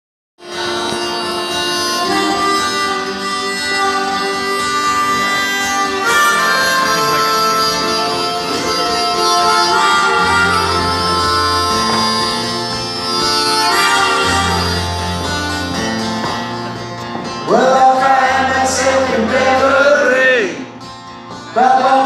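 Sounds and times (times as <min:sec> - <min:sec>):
harmonica melody: 0:00.4 - 0:22.0
instrumental backing: 0:00.4 - 0:22.0.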